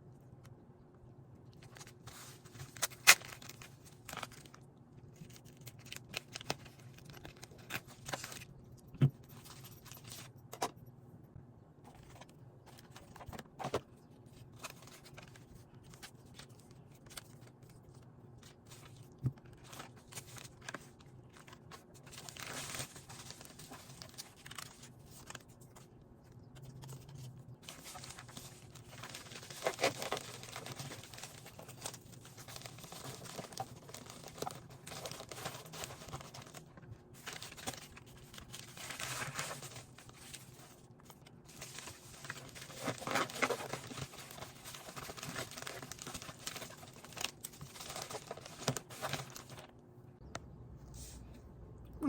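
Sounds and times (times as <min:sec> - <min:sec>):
faint steady hum: 0:00.0 - 0:52.0
paper and plastic crinkling: 0:01.5 - 0:10.8, 0:11.9 - 0:49.8.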